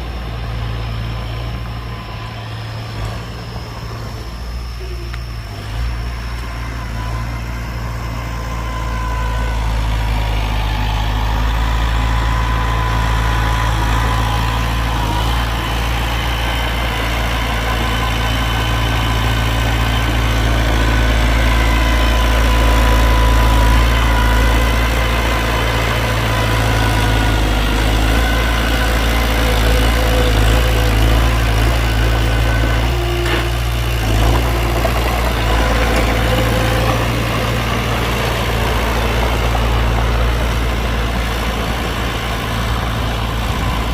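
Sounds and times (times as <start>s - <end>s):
heavy diesel engine rumbling: 0.0s - 43.9s
thin engine whine: 0.0s - 43.9s.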